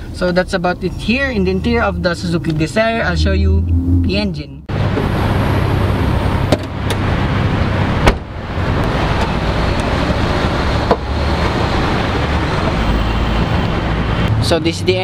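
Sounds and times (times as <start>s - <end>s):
car mechanical hum: 0.0s - 12.8s.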